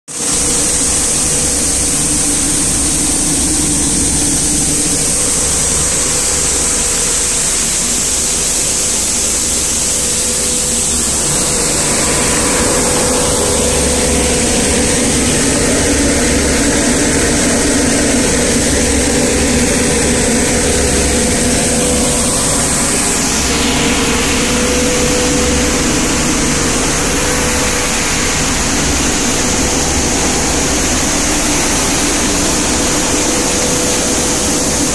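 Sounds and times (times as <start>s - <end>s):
machine hum and whine: 0.1s - 34.9s.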